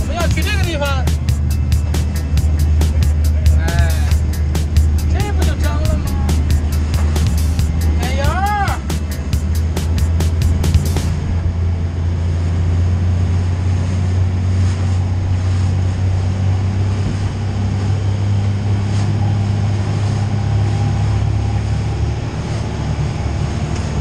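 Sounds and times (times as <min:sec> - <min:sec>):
boat engine droning: 0:00.0 - 0:24.0
hull and water noise: 0:00.0 - 0:24.0.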